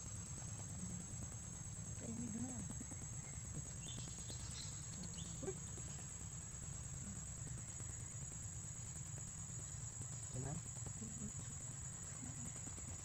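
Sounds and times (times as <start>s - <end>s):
insects chirring: 0.0s - 13.0s
low outdoor rumble: 0.0s - 13.0s.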